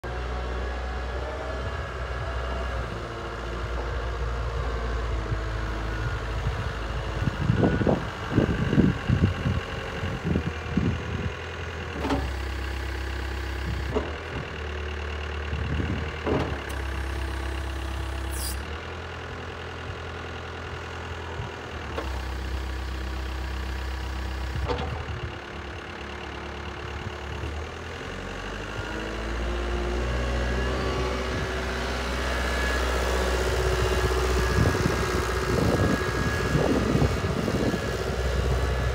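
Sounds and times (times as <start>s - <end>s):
loader diesel engine running: 0.0s - 38.9s.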